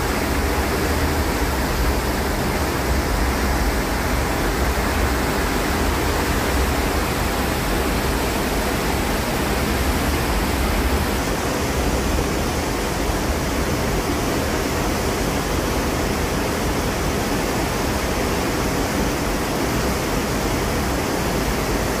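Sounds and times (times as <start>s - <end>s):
wind and sea rushing: 0.0s - 22.0s.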